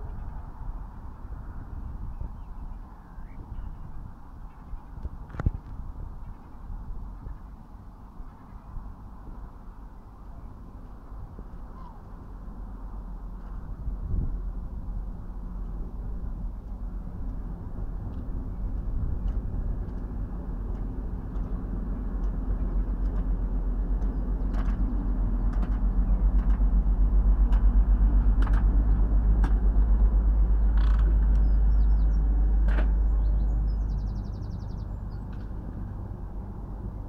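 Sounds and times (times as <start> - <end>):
vehicle engine rumble: 0.0 - 37.0.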